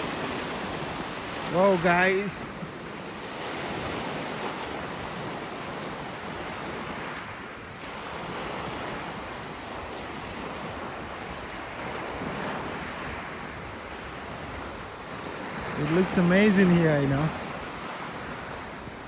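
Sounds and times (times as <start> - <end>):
sea waves washing onto beach: 0.0 - 19.0.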